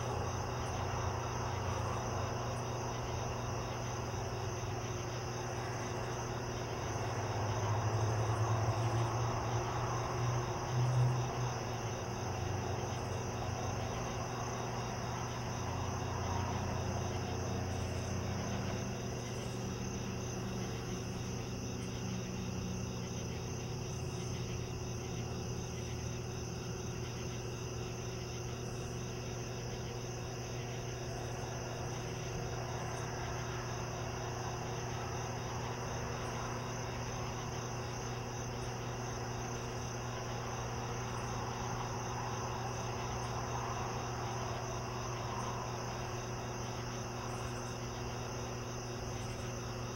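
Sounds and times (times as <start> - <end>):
night insects trilling: 0.0 - 49.9.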